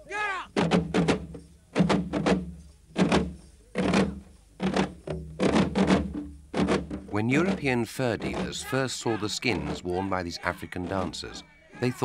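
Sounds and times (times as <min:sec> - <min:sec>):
drums beating dance rhythm: 0:00.3 - 0:11.4.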